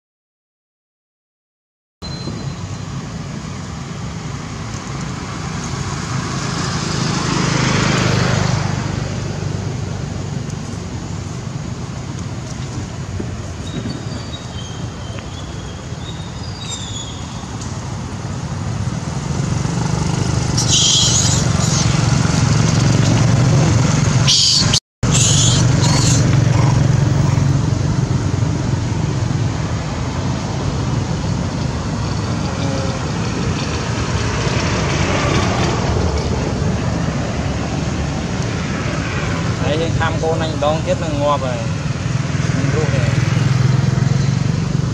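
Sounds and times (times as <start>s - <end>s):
vehicle engine hum: 2.0s - 44.9s.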